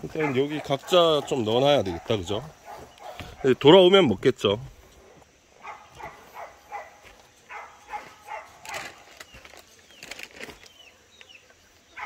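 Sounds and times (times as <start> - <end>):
rustle: 1.3 - 12.0.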